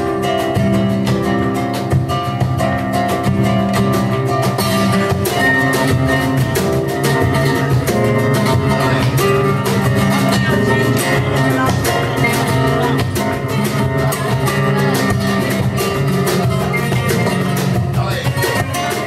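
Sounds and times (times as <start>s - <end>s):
flamenco guitar playing: 0.0s - 19.0s.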